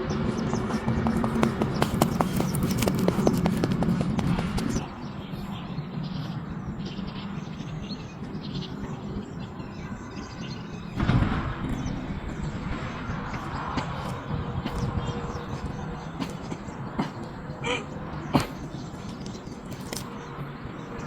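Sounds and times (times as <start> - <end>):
bird chirps: 0.0 - 21.0
outdoor background noise: 0.0 - 21.0.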